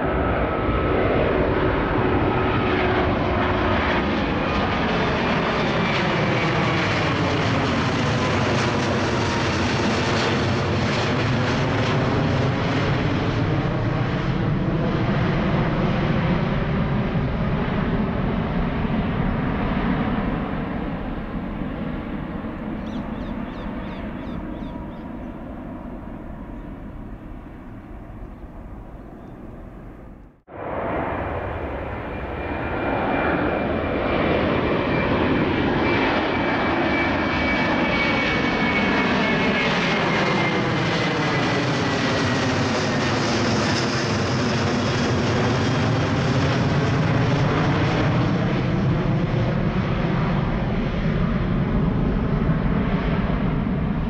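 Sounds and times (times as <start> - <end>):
jet engine high whine: 0.0 - 54.0
jet engines roaring overhead: 0.0 - 54.0.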